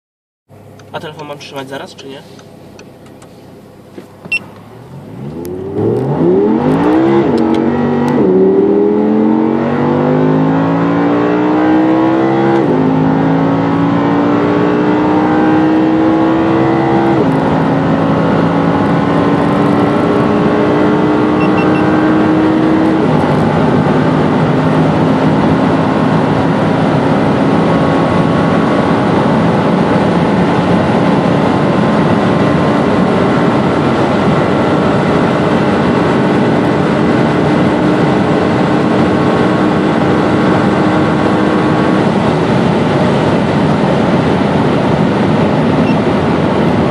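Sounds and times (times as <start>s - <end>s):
car engine accelerating through gears: 4.1s - 46.9s.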